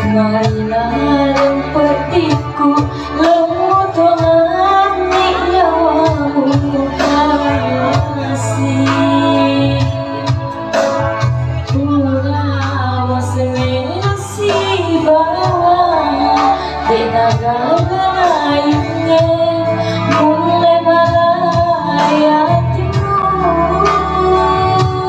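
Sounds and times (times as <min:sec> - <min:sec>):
backing music with steady beat: 0:00.0 - 0:25.0
woman singing: 0:00.0 - 0:25.0.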